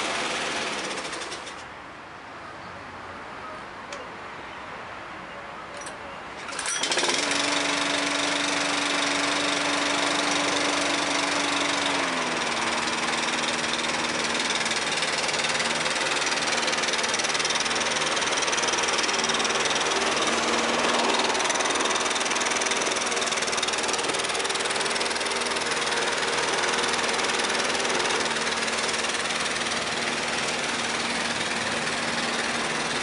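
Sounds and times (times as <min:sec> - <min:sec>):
lawn mower engine running: 0:00.0 - 0:01.7, 0:06.4 - 0:33.0.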